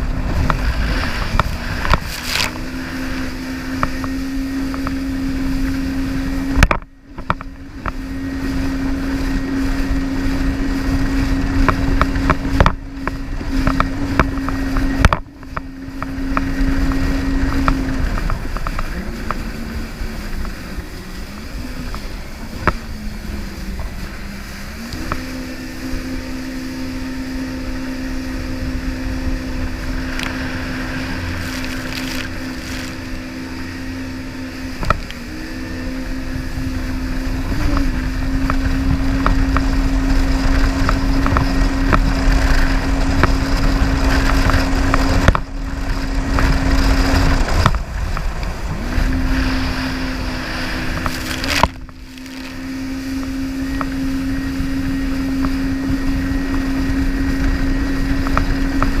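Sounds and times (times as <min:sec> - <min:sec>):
jet ski engine whining: 0:00.0 - 0:59.0
low rumble: 0:00.0 - 0:59.0.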